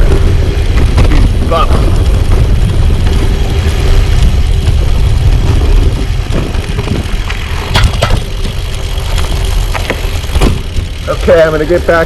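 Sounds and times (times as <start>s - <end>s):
wind buffeting microphone: 0.0s - 11.2s
bike tyres rolling over bumps: 0.0s - 12.0s.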